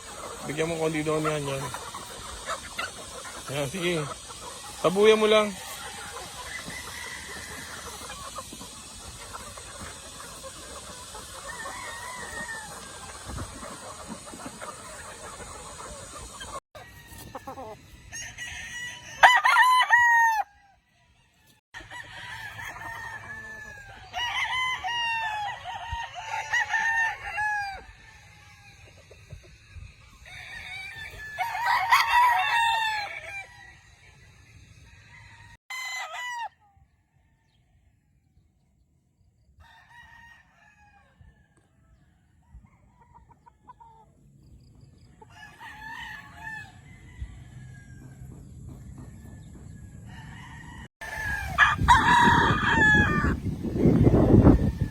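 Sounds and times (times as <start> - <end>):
roosters crowing: 0.0 - 29.0, 30.0 - 36.7, 39.6 - 44.1, 45.0 - 54.9.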